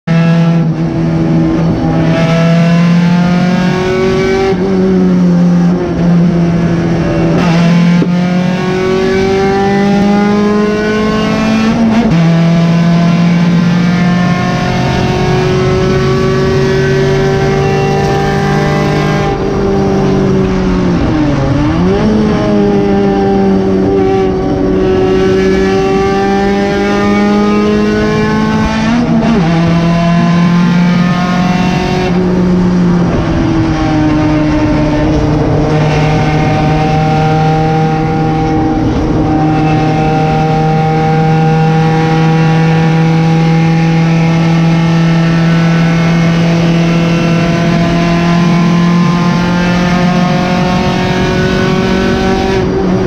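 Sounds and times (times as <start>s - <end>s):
car engine revving through gears: 0.0s - 53.0s.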